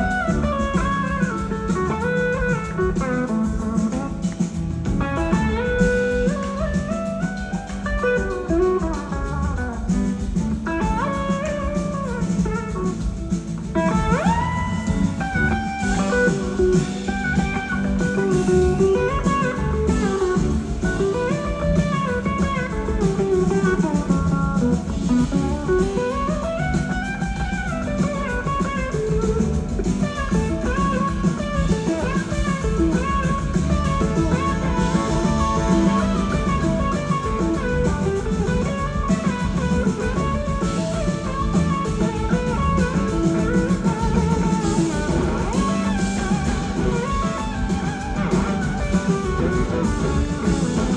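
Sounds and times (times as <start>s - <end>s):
slide guitar solo: 0.0s - 10.0s, 10.6s - 50.9s
drum kit and bass: 0.0s - 50.9s.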